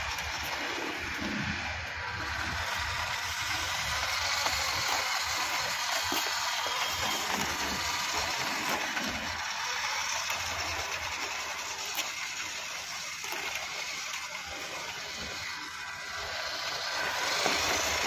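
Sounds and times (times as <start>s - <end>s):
electric toy truck motor: 0.0s - 18.0s
tyres hissing on concrete: 0.0s - 18.0s.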